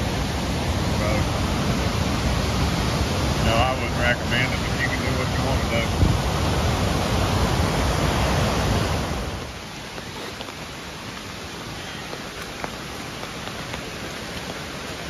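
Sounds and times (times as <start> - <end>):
waterfall rushing and rumbling: 0.0 - 15.0.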